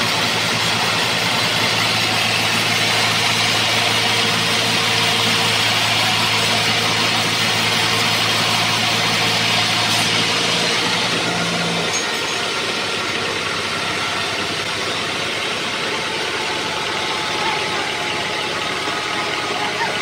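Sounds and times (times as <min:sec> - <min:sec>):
sawmill machinery running: 0:00.0 - 0:20.0.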